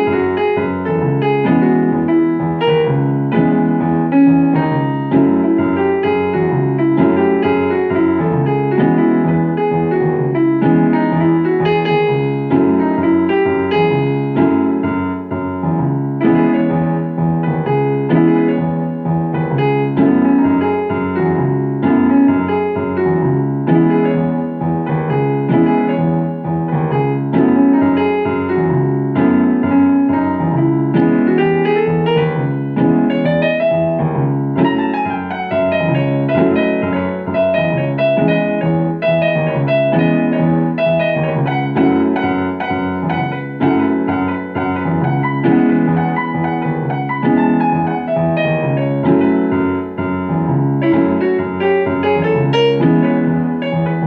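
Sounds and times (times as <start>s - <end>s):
solo piano piece: 0.0s - 54.0s.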